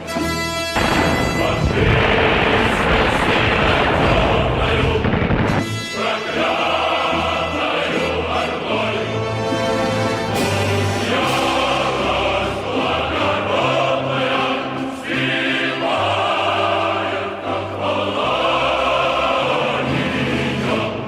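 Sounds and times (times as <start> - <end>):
choir singing solemn chords: 0.8 - 21.0.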